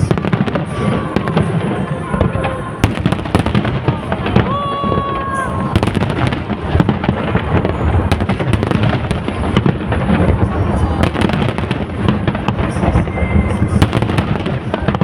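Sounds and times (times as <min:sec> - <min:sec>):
deep rumbling booms: 0:00.0 - 0:15.0
firework cracks and crackles: 0:00.0 - 0:15.0.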